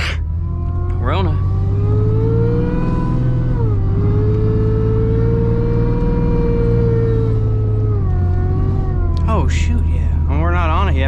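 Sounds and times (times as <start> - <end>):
car engine drone: 0.0 - 11.0
supercharger whine: 0.0 - 11.0.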